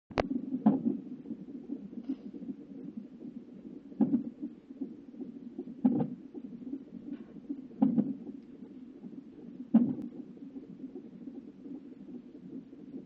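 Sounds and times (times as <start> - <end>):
fast heartbeat on doppler monitor: 0.1 - 13.0.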